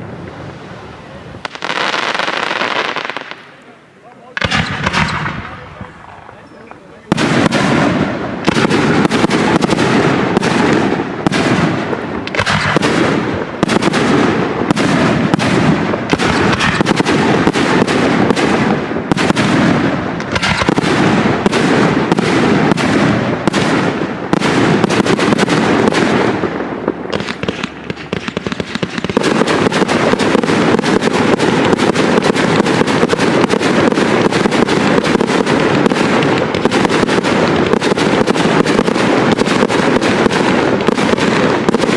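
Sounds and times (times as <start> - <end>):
fireworks crackling: 0.0 - 41.9
fireworks shells bursting: 4.4 - 41.9.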